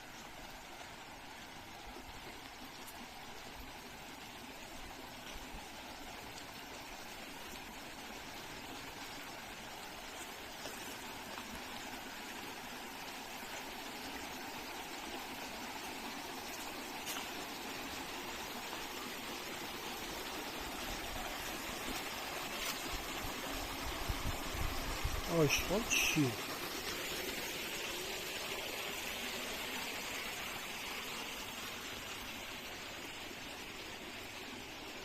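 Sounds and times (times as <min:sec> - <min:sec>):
stream rushing: 0:00.1 - 0:35.0.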